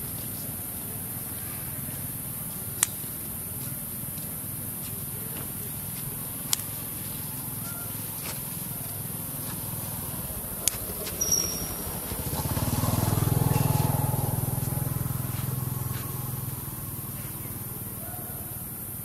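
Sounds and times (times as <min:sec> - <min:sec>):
steady low rumble: 0:00.0 - 0:17.9
passing vehicle engine hum: 0:00.0 - 0:19.0.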